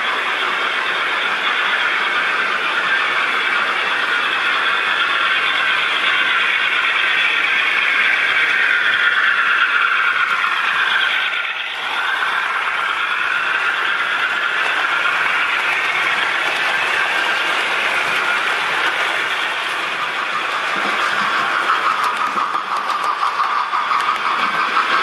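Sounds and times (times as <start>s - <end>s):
model train rumbling along track: 0.0s - 25.0s.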